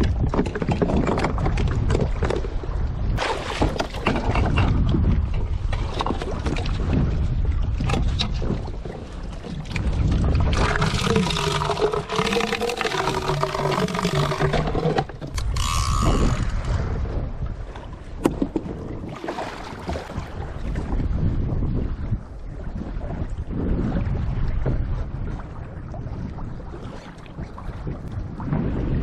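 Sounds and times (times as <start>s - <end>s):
water against kayak: 0.0s - 29.0s
wind on microphone: 0.0s - 29.0s.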